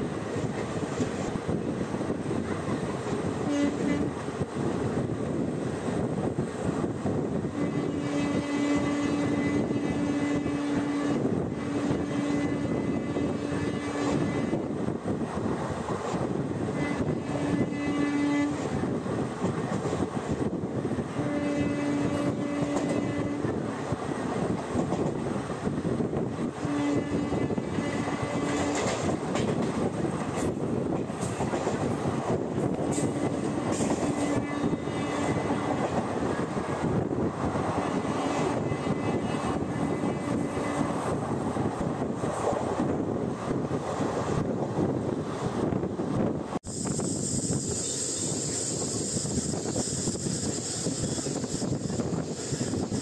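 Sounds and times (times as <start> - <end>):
wheel and rail rush: 0.0 - 53.0.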